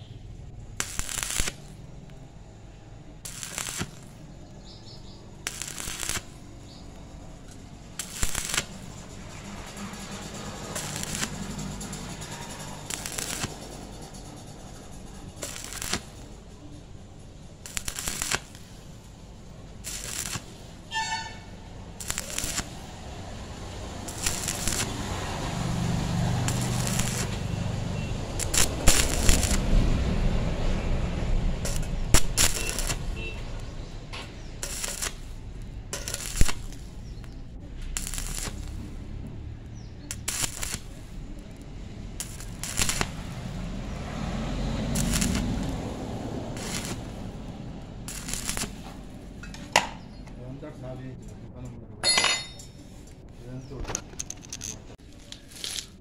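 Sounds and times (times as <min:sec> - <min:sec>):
welding arc crackling and popping: 0:00.0 - 0:02.2, 0:03.2 - 0:50.0.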